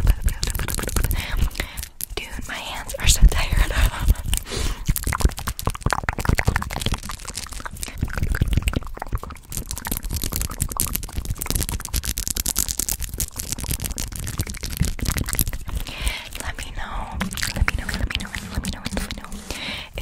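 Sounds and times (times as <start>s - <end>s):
hands rubbing microphone grille: 0.0s - 7.9s, 9.2s - 20.0s.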